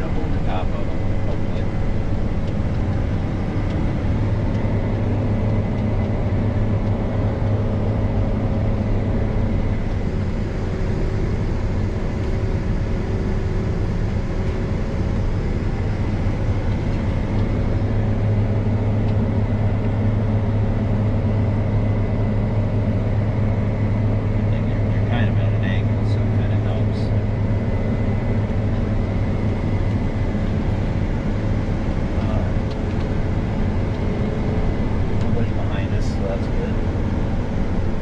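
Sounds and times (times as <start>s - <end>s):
harvester engine droning: 0.0s - 38.0s.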